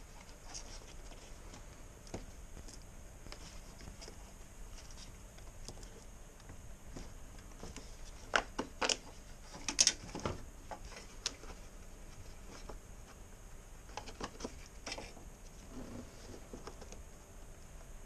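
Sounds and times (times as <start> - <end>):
faint plastic clicks and rustles: 0.0 - 13.2, 13.8 - 18.0.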